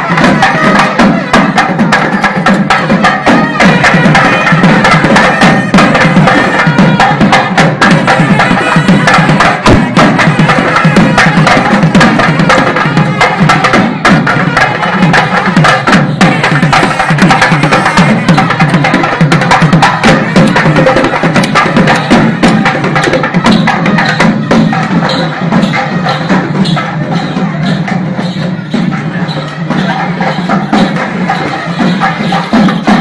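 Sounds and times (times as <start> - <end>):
crowd: 0.0 - 33.0
many drums beating fast: 0.0 - 33.0.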